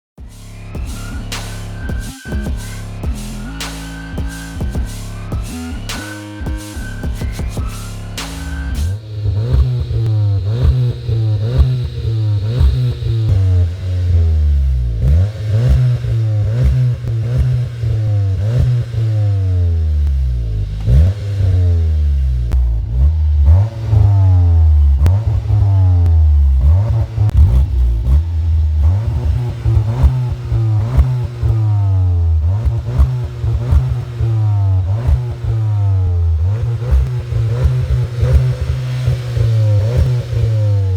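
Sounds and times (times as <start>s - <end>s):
car engine revving: 0.0s - 40.9s
exhaust crackles: 0.1s - 40.9s.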